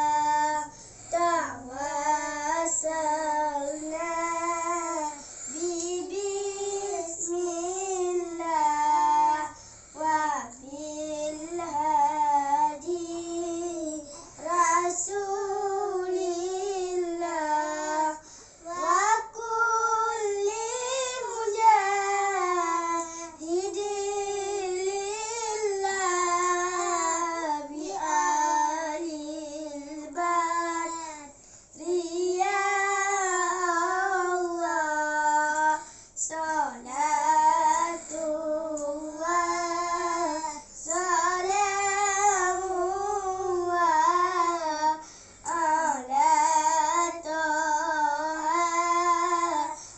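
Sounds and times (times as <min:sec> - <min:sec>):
boys singing devotional chant: 0:00.0 - 0:49.9.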